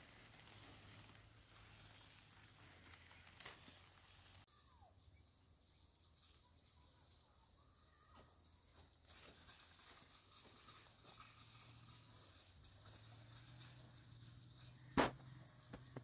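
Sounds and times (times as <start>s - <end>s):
high insect drone: 0.0s - 8.0s, 8.7s - 16.0s.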